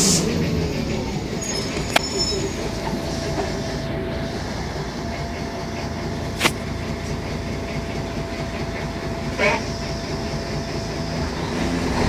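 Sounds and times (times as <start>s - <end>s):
bus diesel engine: 0.0s - 12.0s
road rumble: 0.0s - 12.0s.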